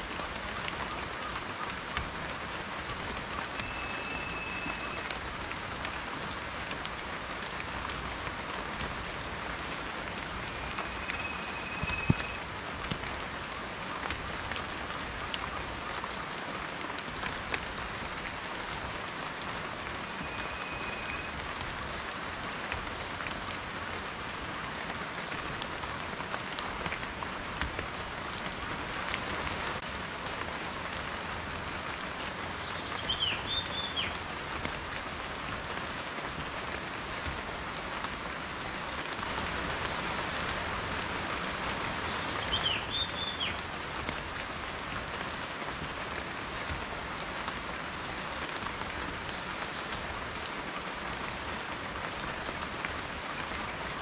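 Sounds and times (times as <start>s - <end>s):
raindrops ticking on surface: 0.0s - 54.0s
steady rain: 0.0s - 54.0s.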